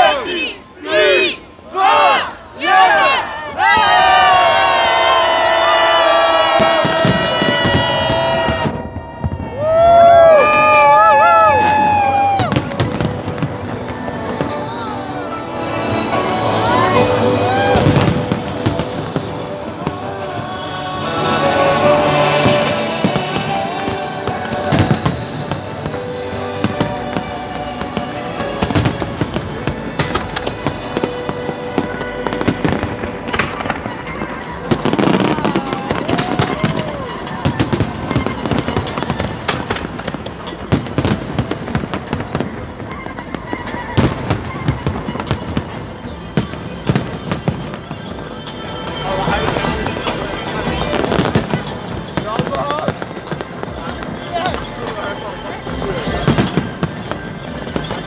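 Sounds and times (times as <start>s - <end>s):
crowd chatter: 0.0s - 58.0s
music playing: 0.0s - 58.0s
fireworks banging: 3.5s - 58.0s.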